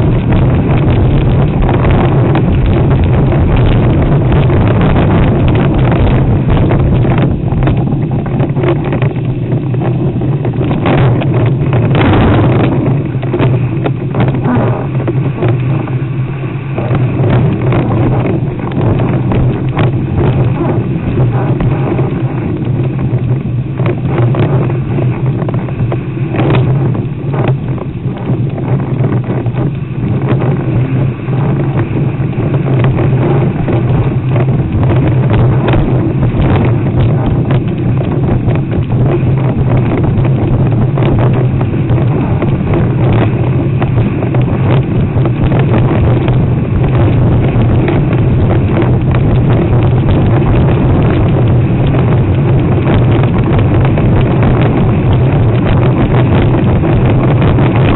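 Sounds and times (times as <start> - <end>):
water rushing past board: 0.0 - 57.9
wind buffeting microphone: 0.0 - 57.9.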